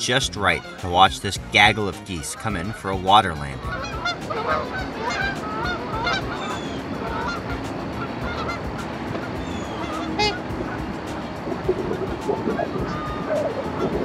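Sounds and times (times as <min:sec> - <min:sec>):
geese honking: 0:00.0 - 0:14.0.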